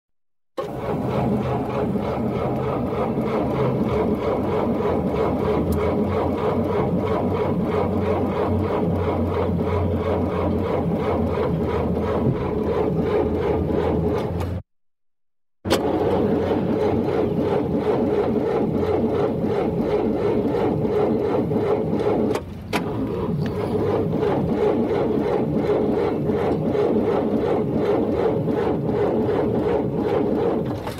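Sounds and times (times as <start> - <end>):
car engine cranking: 0.6 - 14.6, 15.7 - 30.9.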